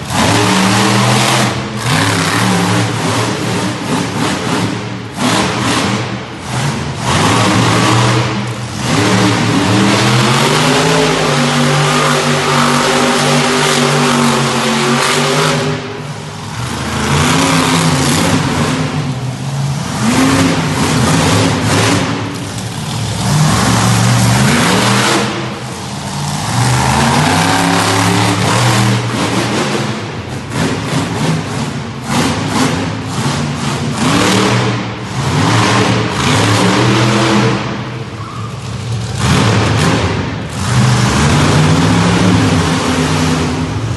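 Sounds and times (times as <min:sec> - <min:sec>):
monster truck engine revving: 0:00.0 - 0:43.9.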